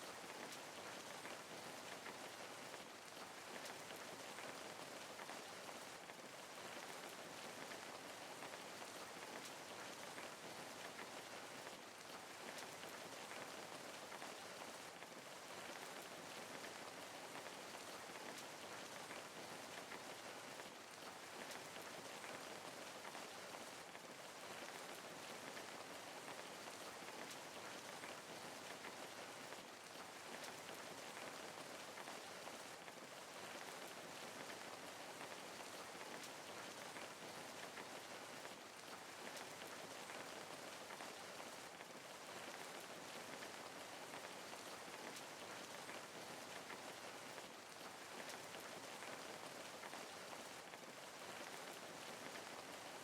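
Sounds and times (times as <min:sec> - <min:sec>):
raindrops pattering on a surface: 0:00.0 - 0:53.0
steady rain hiss: 0:00.0 - 0:53.0.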